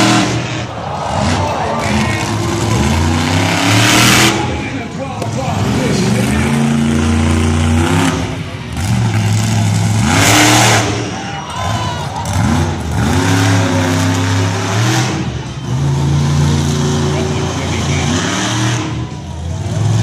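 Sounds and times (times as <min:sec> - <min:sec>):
loud rush of noise: 0:00.0 - 0:20.0
monster truck engine revving: 0:00.0 - 0:20.0.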